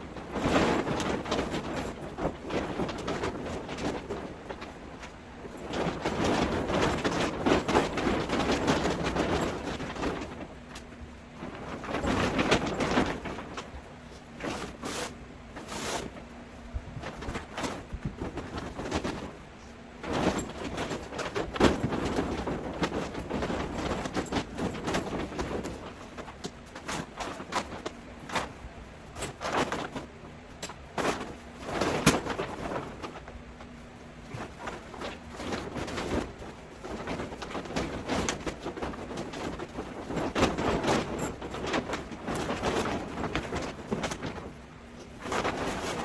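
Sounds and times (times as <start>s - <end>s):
rustling and sliding swishes: 0.0s - 46.0s.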